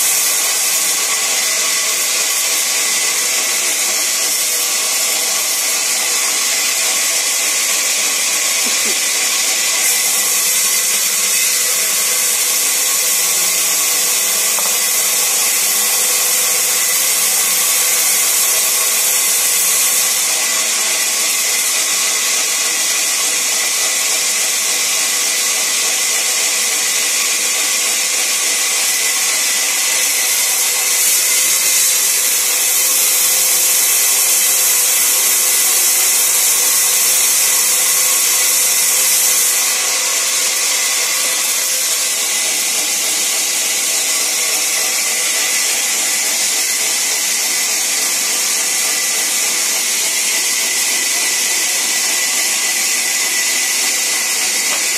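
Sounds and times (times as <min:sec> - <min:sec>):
band saw whining through wood: 0:00.0 - 0:54.9.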